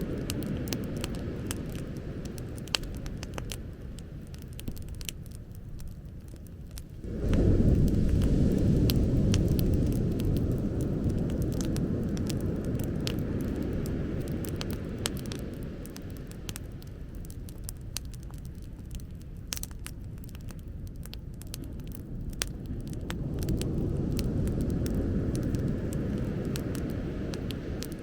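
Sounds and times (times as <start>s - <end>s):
bonfire crackling: 0.0s - 28.0s.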